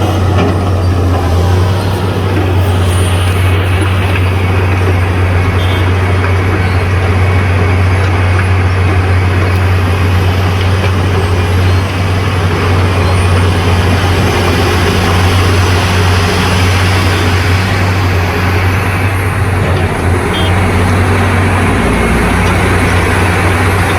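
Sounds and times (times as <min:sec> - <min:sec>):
heavy machinery engine drone: 0:00.0 - 0:23.9.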